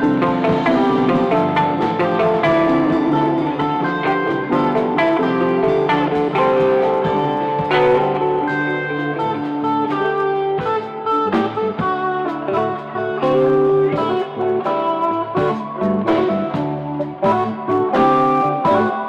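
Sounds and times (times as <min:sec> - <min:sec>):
drum kit: 0:00.0 - 0:19.0
electric guitars: 0:00.0 - 0:19.0.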